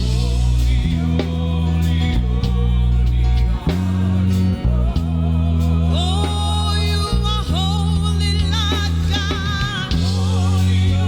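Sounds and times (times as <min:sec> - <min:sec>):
band playing worship music: 0:00.0 - 0:11.0
deep bass notes: 0:00.0 - 0:11.0
voices singing: 0:00.0 - 0:11.0.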